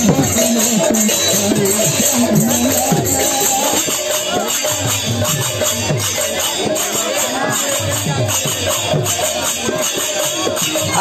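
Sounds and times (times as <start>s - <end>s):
street drumming: 0.0s - 11.0s.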